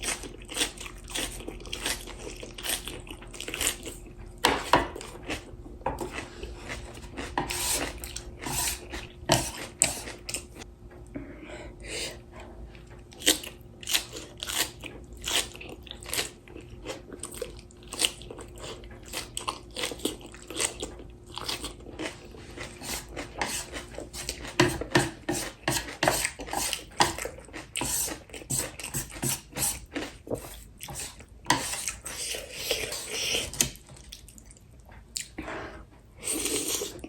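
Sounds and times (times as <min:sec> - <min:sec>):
person chewing crunchy cabbage: 0:00.0 - 0:10.7, 0:12.2 - 0:37.0.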